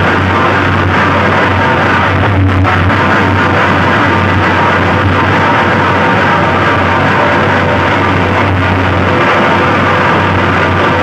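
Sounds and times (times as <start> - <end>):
deep bass: 0.0 - 11.0
loud music through loudspeakers: 0.0 - 11.0.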